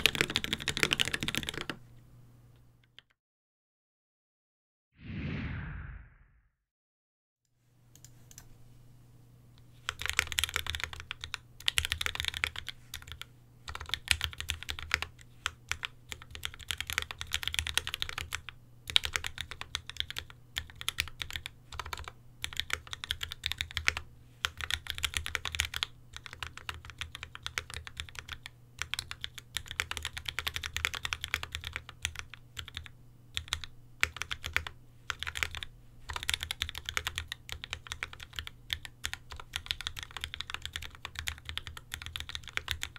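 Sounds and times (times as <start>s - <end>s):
mechanical keyboard typing: 0.0s - 1.8s, 9.8s - 42.9s.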